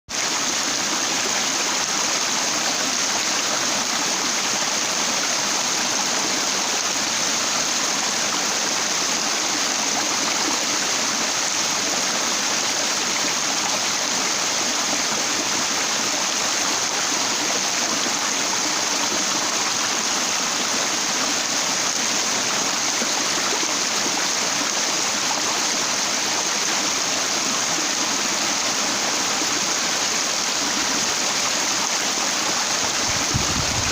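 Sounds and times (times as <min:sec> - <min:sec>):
stream water rushing over rock: 0:00.1 - 0:33.9.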